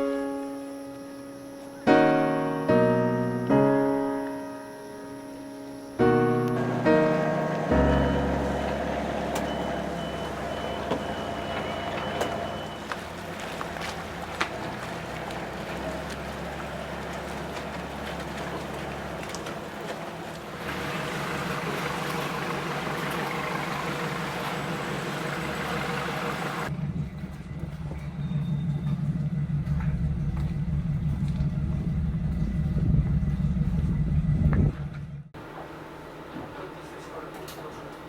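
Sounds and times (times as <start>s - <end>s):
vehicle engine drone: 0.0s - 38.0s.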